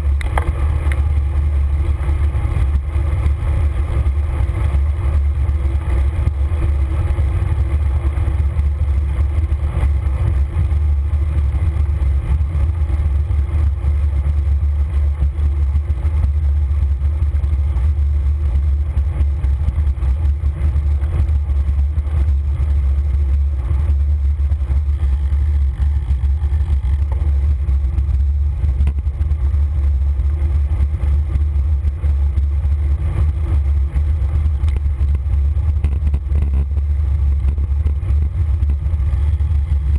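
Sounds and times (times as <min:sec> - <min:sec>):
faint road and tyre noise: 0:00.0 - 0:39.9.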